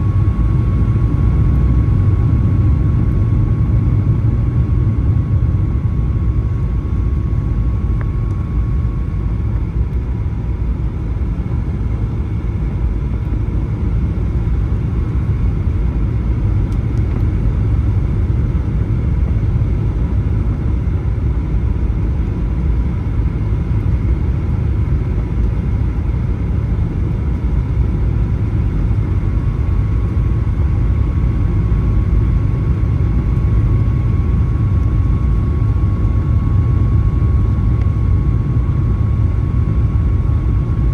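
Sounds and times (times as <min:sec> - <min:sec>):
airplane cabin rumble: 0:00.0 - 0:40.9
faint steady whine: 0:00.0 - 0:40.9.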